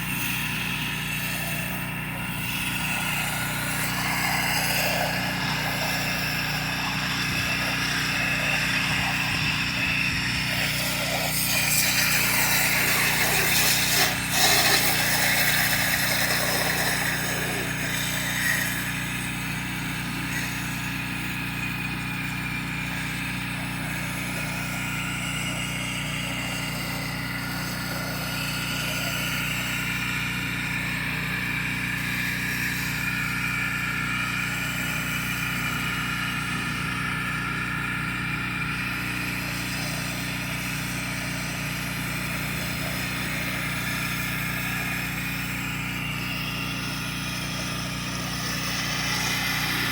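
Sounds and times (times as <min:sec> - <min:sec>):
high-pressure water spray hissing: 0:00.0 - 0:31.3, 0:39.0 - 0:49.9
pressure washer engine running: 0:00.0 - 0:49.9.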